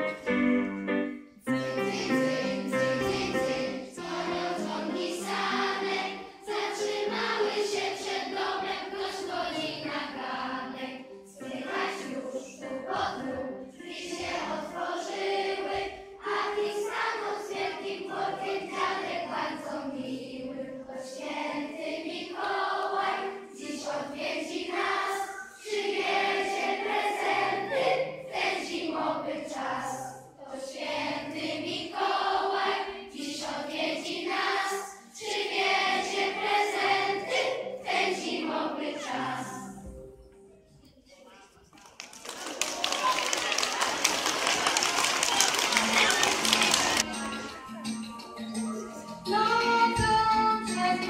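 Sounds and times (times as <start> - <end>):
children's choir singing: 1.1 - 40.9, 42.3 - 51.0.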